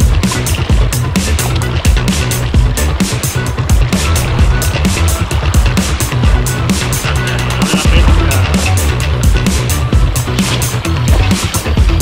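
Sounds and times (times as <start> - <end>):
deep bass: 0.0 - 12.0
loud music with drum beat: 0.0 - 12.0.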